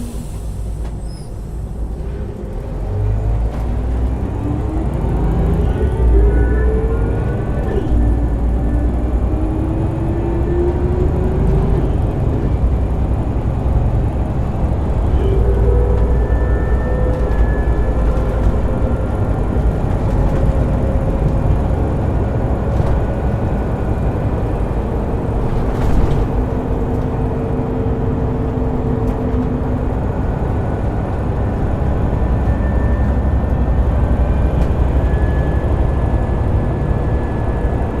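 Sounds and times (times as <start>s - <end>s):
bus engine low rumble: 0.0s - 38.0s.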